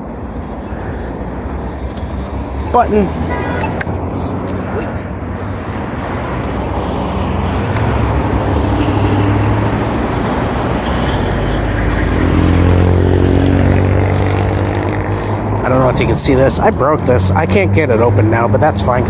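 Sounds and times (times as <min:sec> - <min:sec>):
motor vehicle engine hum: 0:00.0 - 0:19.0.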